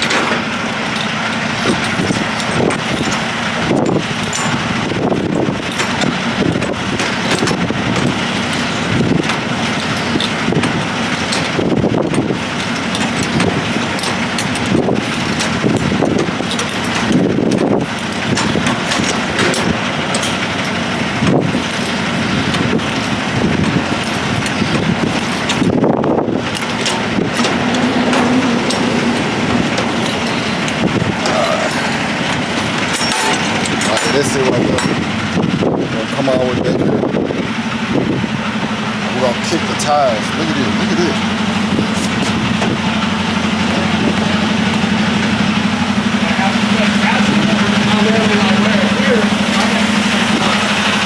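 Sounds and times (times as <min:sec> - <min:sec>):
semi truck engine running: 0:00.0 - 0:51.0.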